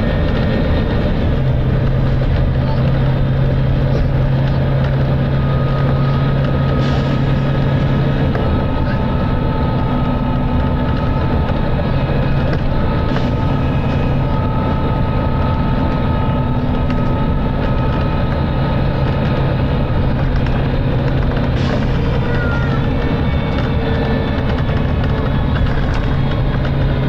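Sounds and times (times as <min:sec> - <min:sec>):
bus diesel engine working hard: 0:00.0 - 0:27.0
steady whine: 0:00.0 - 0:27.0.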